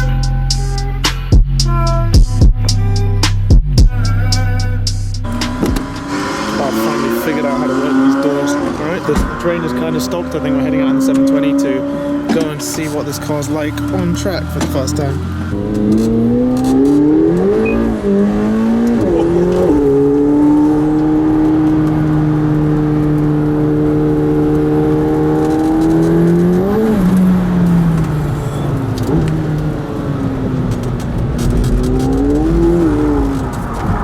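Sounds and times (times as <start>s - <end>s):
car engine revving and shifting: 0.0s - 34.0s.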